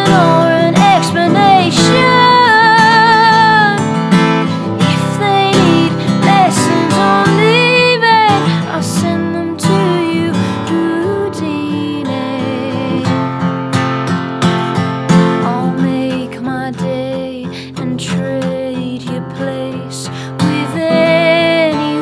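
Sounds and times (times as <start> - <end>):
woman singing: 0.0 - 13.5, 15.1 - 22.0
strummed acoustic guitar: 0.0 - 22.0.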